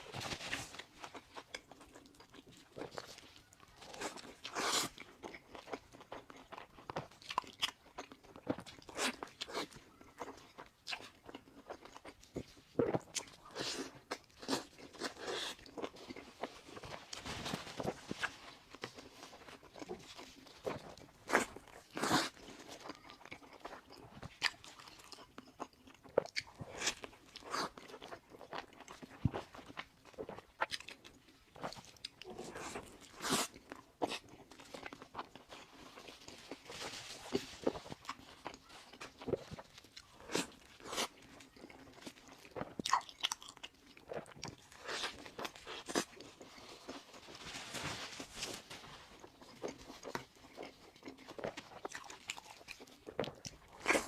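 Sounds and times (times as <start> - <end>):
burger being chewed: 0.0 - 17.2, 17.8 - 47.4, 48.4 - 54.0.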